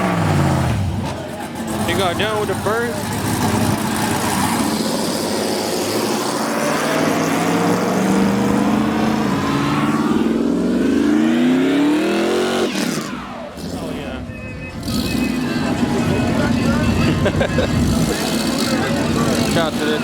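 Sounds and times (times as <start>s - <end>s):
car engine revving hard: 0.0s - 14.2s, 14.8s - 20.0s.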